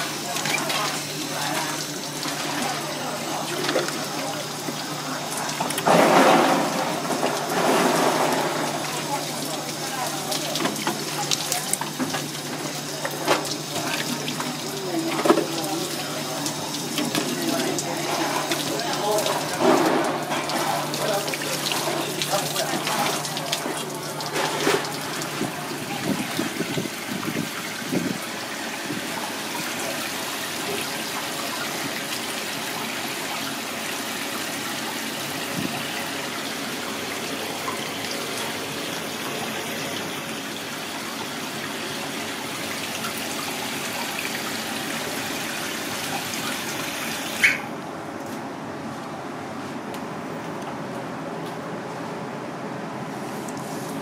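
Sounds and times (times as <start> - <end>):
running tap water: 0.0 - 47.7.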